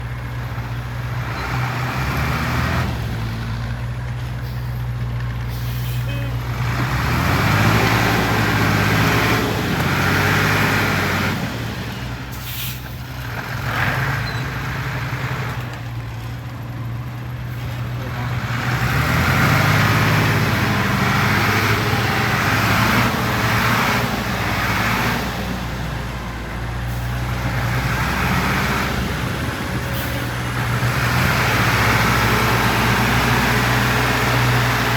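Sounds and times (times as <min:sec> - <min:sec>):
heavy diesel engine under load: 0:00.0 - 0:34.9.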